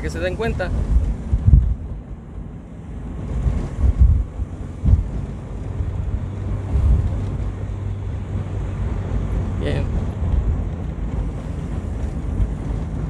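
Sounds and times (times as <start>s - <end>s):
car engine hum: 0.0s - 13.0s
road noise: 0.0s - 13.0s
wind buffeting microphone: 0.0s - 13.0s.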